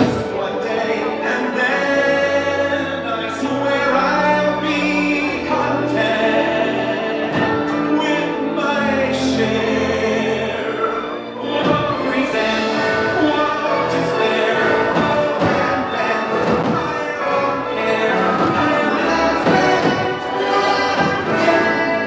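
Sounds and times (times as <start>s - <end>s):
choir singing: 0.0s - 22.0s
orchestral music: 0.0s - 22.0s.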